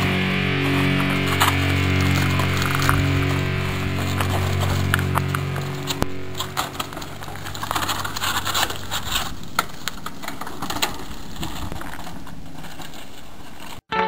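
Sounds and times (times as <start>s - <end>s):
bike tyres rolling over rocks: 0.0s - 13.8s.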